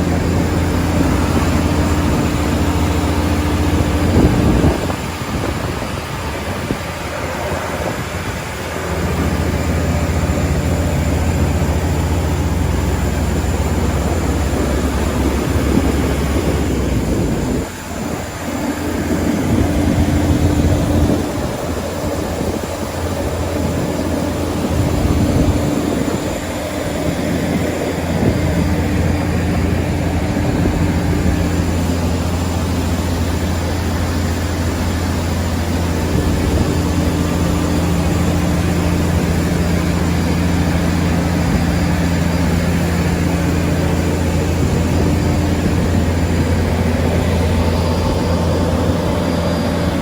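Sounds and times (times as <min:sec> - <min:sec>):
aircraft and machinery drone: 0:00.0 - 0:50.0.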